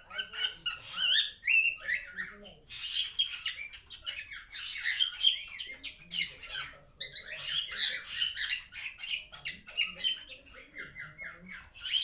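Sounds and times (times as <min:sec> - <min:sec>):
cockatiel chirping and squeaking: 0:00.1 - 0:12.0.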